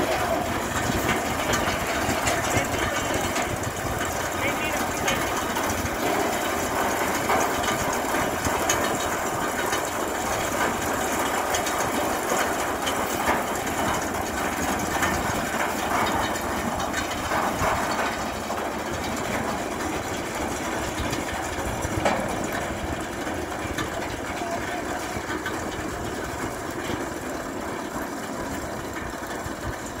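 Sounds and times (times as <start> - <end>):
conveyor mechanical rattling: 0.0 - 30.0
tractor engine running: 0.0 - 30.0.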